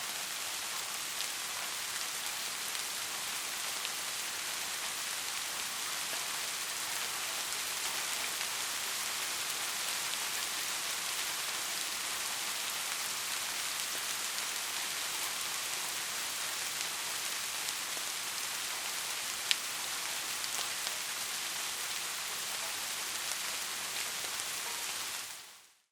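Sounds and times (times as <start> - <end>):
rain falling: 0.0 - 25.8.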